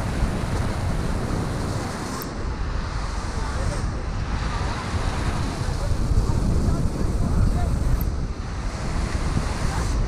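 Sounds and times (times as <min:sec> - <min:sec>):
surf breaking on beach: 0:00.0 - 0:10.0
wind rumbling on microphone: 0:00.0 - 0:10.0.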